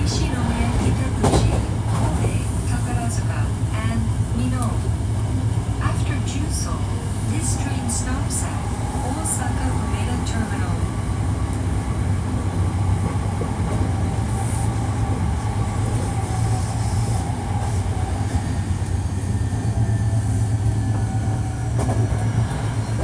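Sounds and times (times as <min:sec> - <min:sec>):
train rolling rumble: 0:00.0 - 0:23.0.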